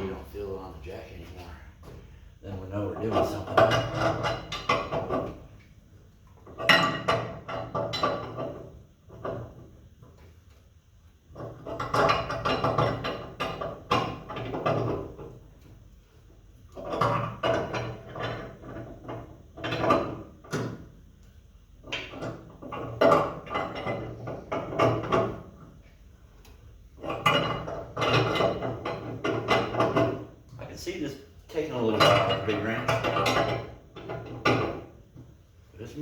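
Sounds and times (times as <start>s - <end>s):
metal creaking and grinding: 0.0s - 5.7s, 6.3s - 10.2s, 11.3s - 15.8s, 16.6s - 20.9s, 21.8s - 26.0s, 26.9s - 36.0s.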